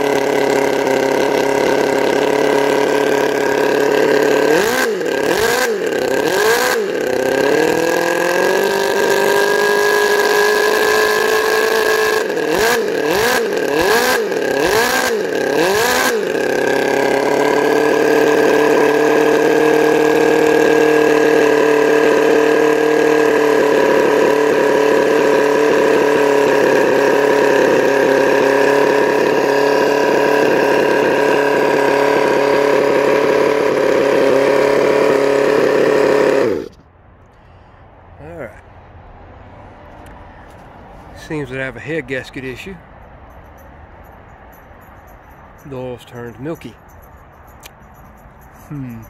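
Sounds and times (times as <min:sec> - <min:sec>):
model engine revving: 0:00.0 - 0:36.8, 0:44.6 - 0:49.0.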